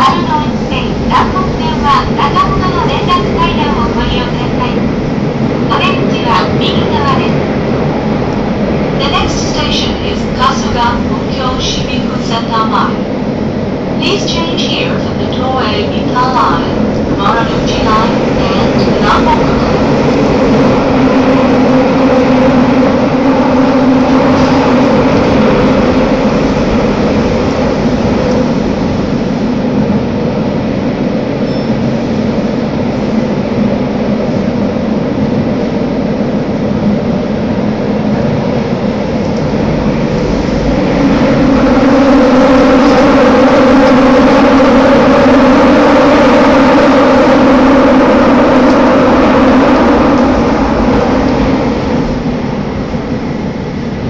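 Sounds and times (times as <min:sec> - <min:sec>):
constant drone: 0:00.0 - 0:54.0
subway train rumbling in tunnel: 0:00.0 - 0:54.0.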